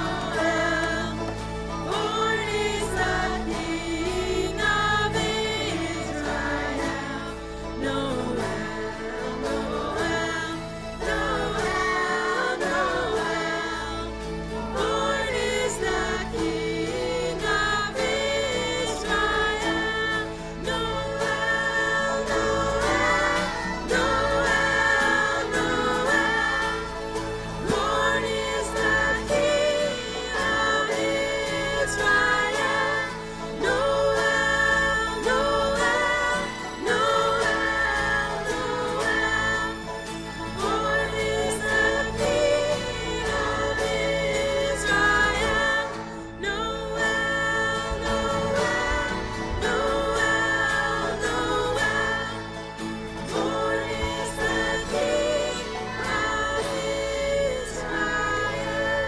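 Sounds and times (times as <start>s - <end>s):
band accompaniment: 0.0s - 59.0s
choir singing: 0.0s - 59.0s
worship music: 0.0s - 59.0s.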